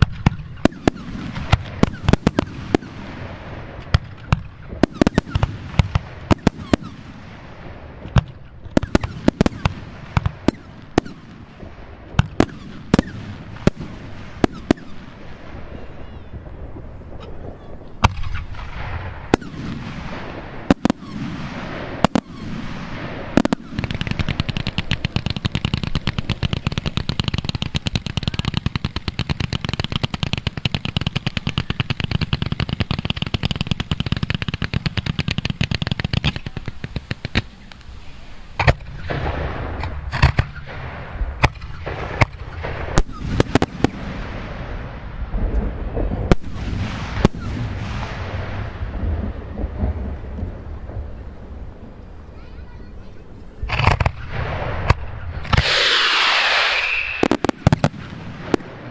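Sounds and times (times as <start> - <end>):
dense volley of fireworks: 0.0 - 58.9
fireworks bangs: 0.0 - 58.9.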